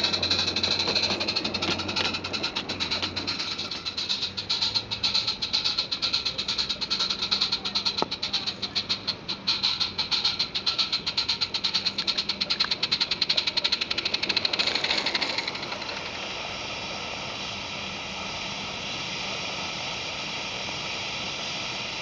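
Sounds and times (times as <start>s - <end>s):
steady steam hiss: 0.0s - 22.0s
steam locomotive chuffing: 0.0s - 22.0s.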